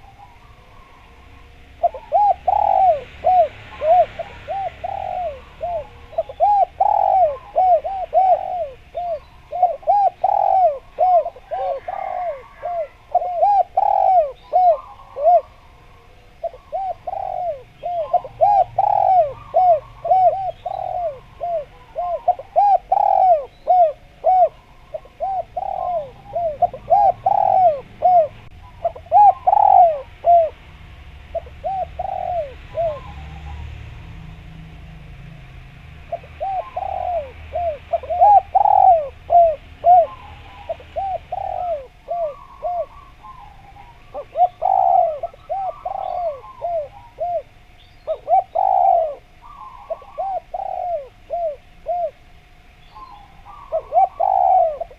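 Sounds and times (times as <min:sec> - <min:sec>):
dove cooing: 0:00.0 - 0:34.3, 0:36.0 - 0:54.9.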